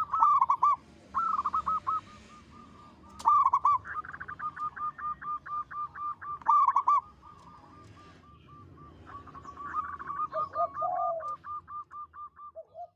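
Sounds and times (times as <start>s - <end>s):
dove cooing: 0.0s - 12.9s.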